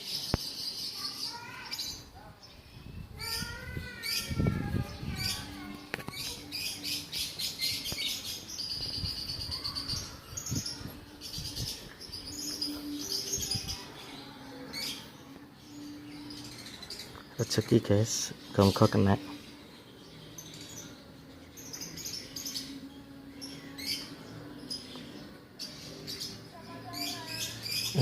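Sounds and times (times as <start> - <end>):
lovebirds chirping: 0.0 - 28.0.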